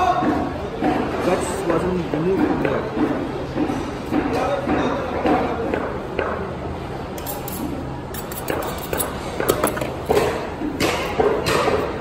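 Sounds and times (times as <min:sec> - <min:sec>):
steady background din: 0:00.0 - 0:12.0.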